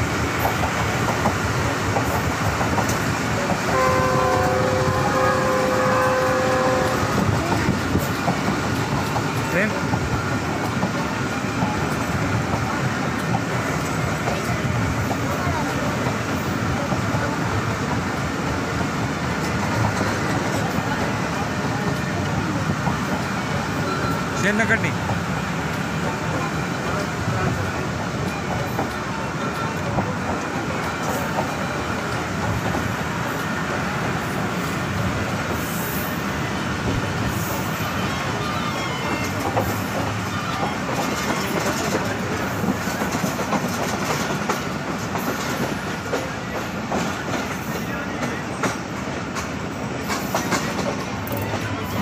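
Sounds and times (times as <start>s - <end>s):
train wheel-on-rail noise: 0.0s - 52.0s.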